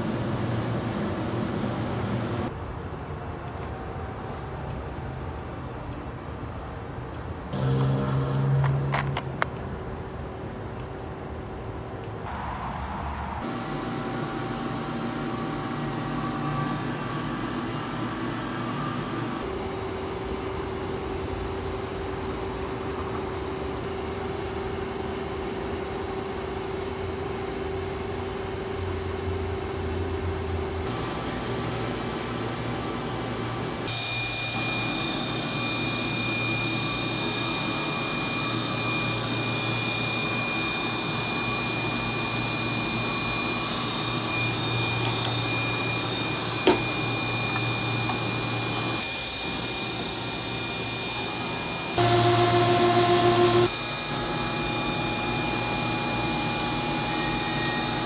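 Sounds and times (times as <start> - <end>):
machine mechanical whine: 0.0 - 2.6, 7.4 - 58.0.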